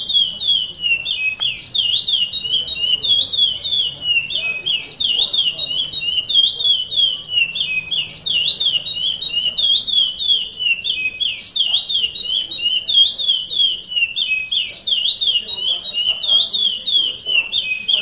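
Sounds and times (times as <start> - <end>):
finch singing whistled notes: 0.0 - 18.0.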